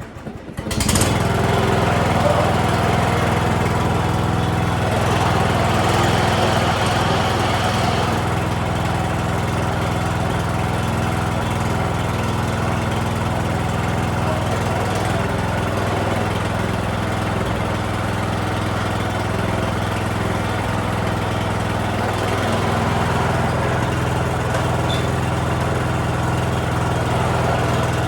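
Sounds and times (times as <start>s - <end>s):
riding lawn mower engine running: 0.0s - 28.0s.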